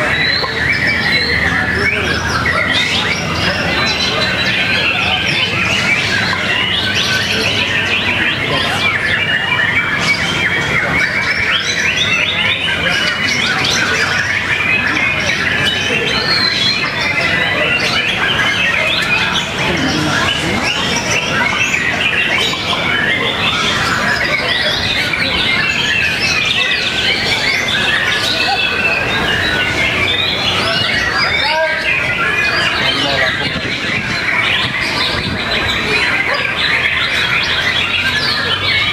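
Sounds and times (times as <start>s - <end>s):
caged songbirds chirping and whistling: 0.0s - 38.9s.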